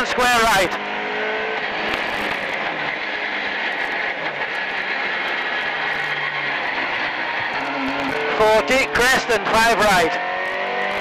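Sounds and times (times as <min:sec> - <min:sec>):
rally car engine running hard: 0:00.0 - 0:11.0
road and cabin noise: 0:00.0 - 0:11.0.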